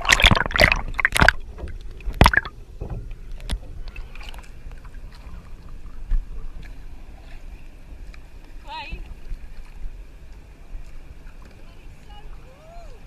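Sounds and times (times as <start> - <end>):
water lapping: 0.0 - 13.0
water splashing and sloshing: 0.0 - 13.0.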